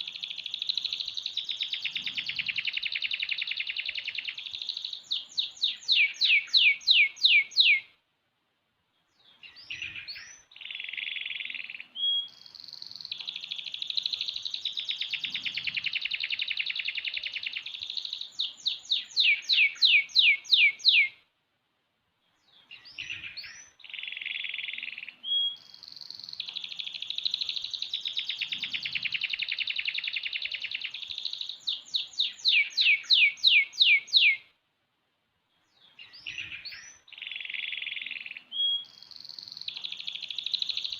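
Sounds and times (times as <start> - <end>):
canary singing trills: 0.0 - 8.0, 9.2 - 21.2, 22.4 - 34.5, 35.7 - 40.9.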